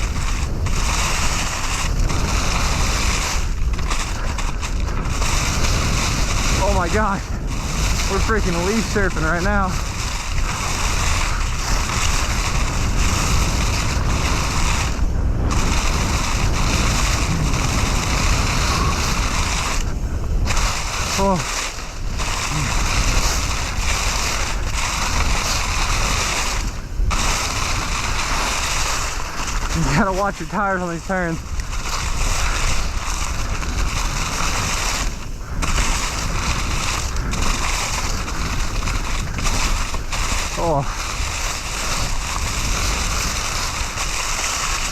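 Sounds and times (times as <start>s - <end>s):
bike tyres crunching through leaves: 0.0s - 44.9s
wind buffeting microphone: 0.0s - 44.9s.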